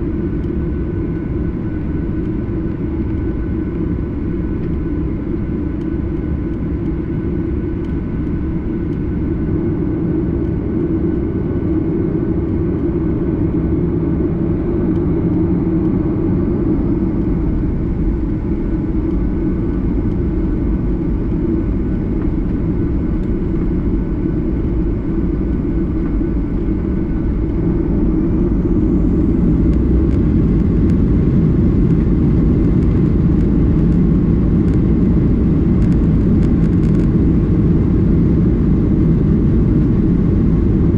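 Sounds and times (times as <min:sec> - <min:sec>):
airplane engines low rumble: 0:00.0 - 0:40.9
high engine whine: 0:00.0 - 0:40.9.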